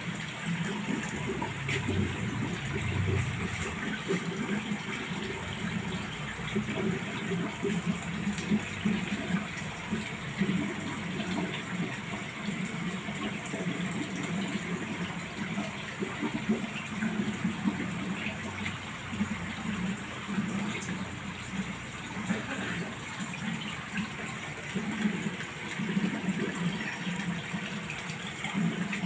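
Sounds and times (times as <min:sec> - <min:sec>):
water rushing in aquarium tank: 0:00.0 - 0:29.0.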